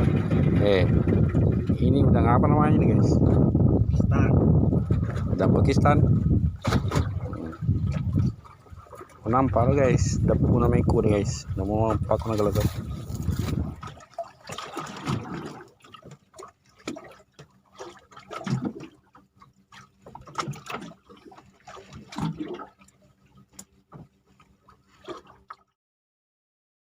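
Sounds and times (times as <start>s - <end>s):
water splashing and sloshing: 0.0s - 25.8s.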